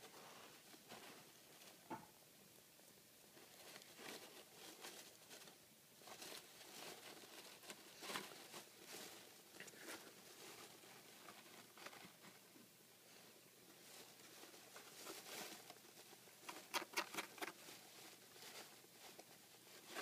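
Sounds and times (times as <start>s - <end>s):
hedgehog rustling in wood shavings: 3.3s - 20.0s.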